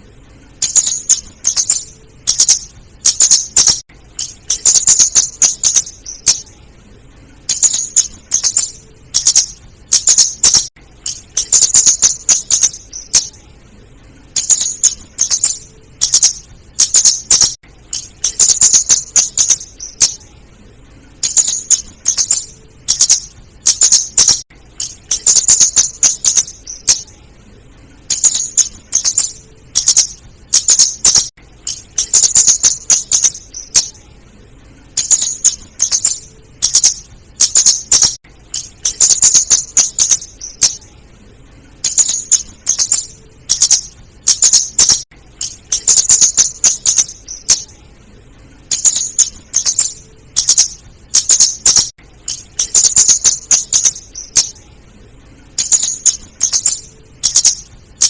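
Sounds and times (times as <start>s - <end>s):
bird high sharp ticking calls: 0.6s - 6.6s, 7.4s - 13.4s, 14.3s - 20.3s, 21.2s - 27.2s, 28.0s - 34.0s, 35.0s - 40.8s, 41.8s - 47.8s, 48.7s - 54.6s, 55.6s - 58.0s.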